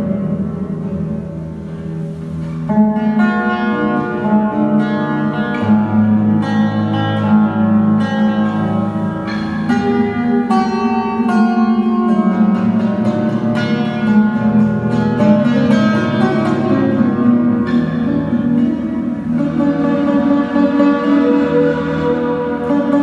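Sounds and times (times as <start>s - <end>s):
guitar and oud melody: 0.0s - 23.0s.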